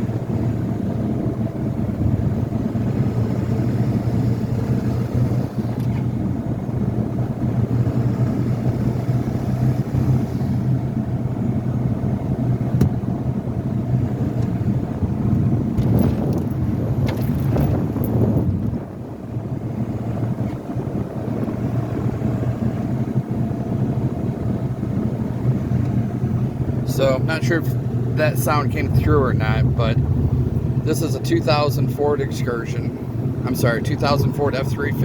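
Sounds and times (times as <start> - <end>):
diesel engine and road drone: 0.0 - 35.0.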